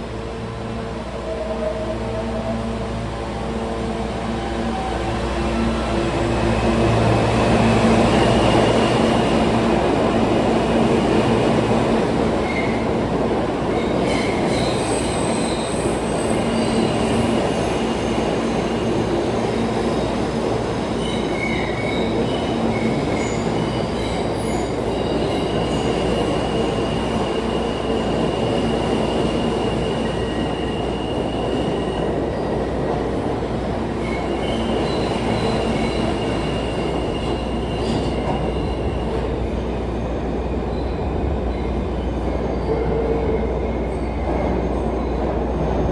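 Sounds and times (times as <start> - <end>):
subway train rumbling: 0.0 - 45.9
train wheel squeals: 1.2 - 32.9, 33.7 - 45.9.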